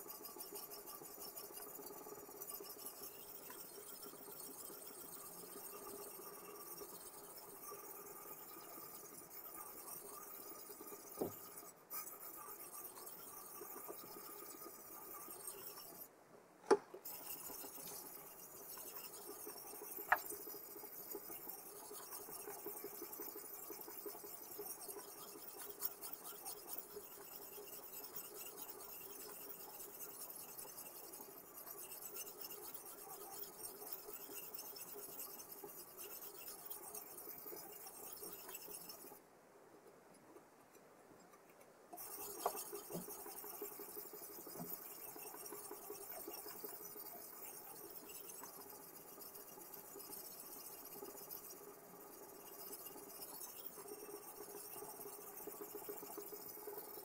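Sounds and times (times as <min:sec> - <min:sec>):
sharpening stone scraping knife: 0:00.0 - 0:16.1, 0:17.0 - 0:39.2, 0:42.0 - 0:57.0.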